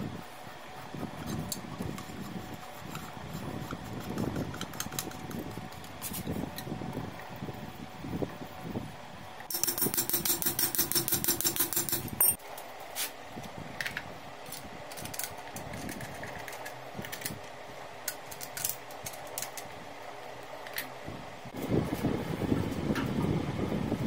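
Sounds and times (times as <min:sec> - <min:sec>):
fan hum: 0:00.0 - 0:24.0.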